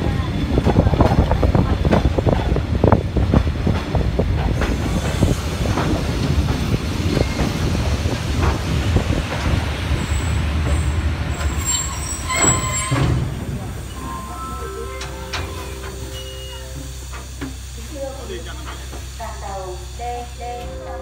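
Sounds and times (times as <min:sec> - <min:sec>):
train coach rumbling on rails: 0:00.0 - 0:21.0.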